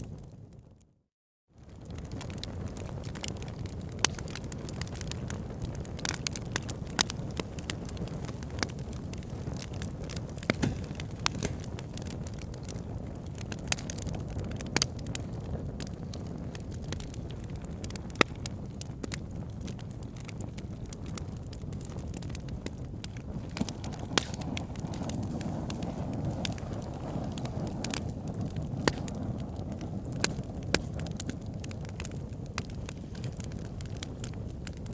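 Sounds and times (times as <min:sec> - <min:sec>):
fire crackles and pops: 0:00.0 - 0:00.9, 0:01.6 - 0:34.9
wood fire rumbling: 0:01.6 - 0:34.9.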